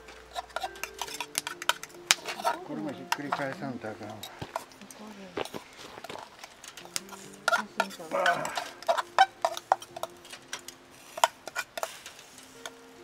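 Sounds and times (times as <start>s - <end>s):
metal tongs clicking on grill: 0.2s - 5.0s, 6.4s - 12.9s.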